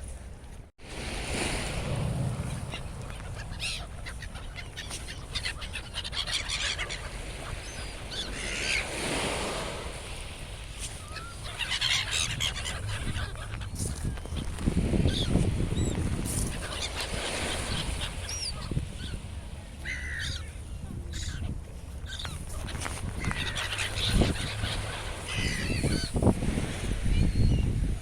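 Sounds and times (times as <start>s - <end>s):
gulls calling: 2.4s - 9.8s, 10.6s - 26.3s.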